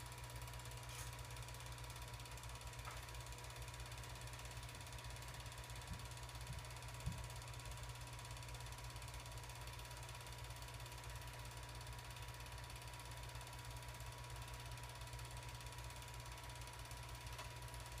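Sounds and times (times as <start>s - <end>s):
film projector clattering: 0.0s - 18.0s.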